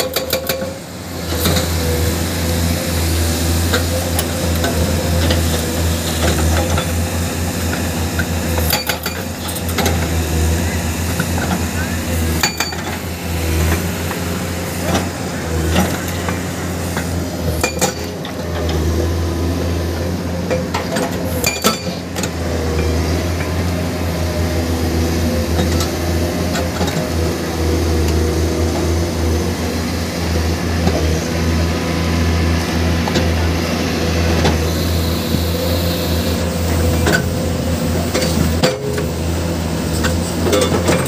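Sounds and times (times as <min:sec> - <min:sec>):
diesel engine humming: 0:00.0 - 0:41.0.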